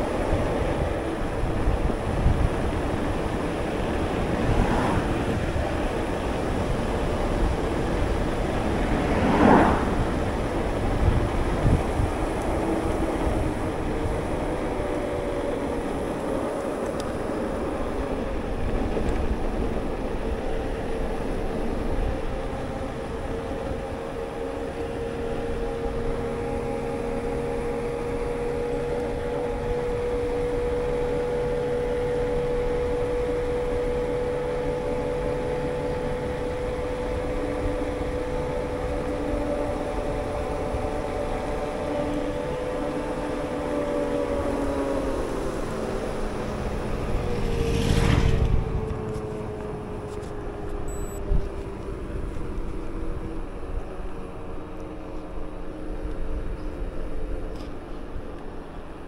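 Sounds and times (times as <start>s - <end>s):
electric bike motor hum: 0.0s - 59.0s
wind rumble on microphone: 0.0s - 59.0s.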